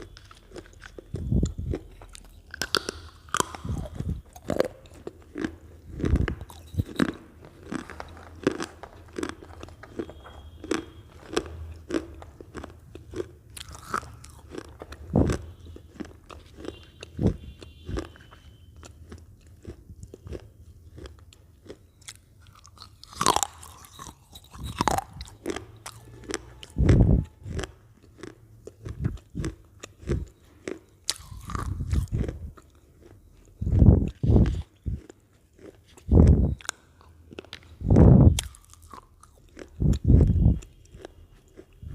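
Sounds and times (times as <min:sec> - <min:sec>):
chewing potato chips: 0:00.0 - 0:41.9.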